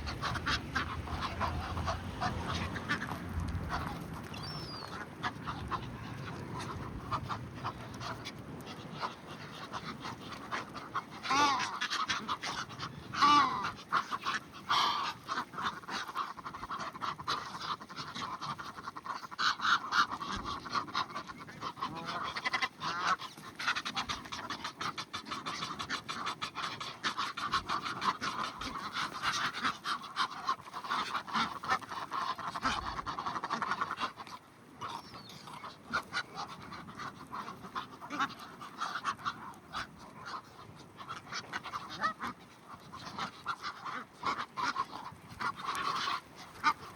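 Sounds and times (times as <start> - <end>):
geese chattering calls: 0.0 - 46.9.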